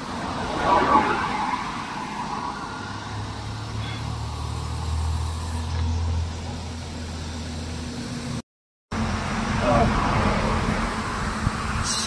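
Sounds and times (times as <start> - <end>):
road hiss: 0.0 - 8.4, 9.0 - 12.0
cars driving past: 0.0 - 12.0.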